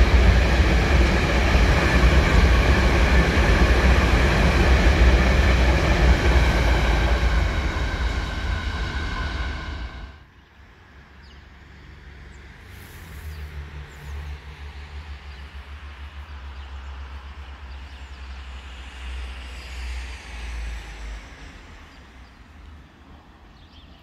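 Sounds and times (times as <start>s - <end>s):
distant traffic hiss: 0.0s - 24.0s.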